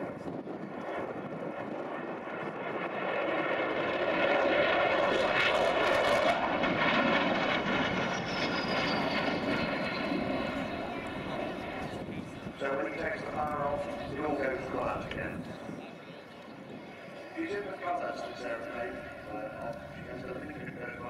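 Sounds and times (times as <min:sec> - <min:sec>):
jet engines roaring on flypast: 0:00.0 - 0:21.0.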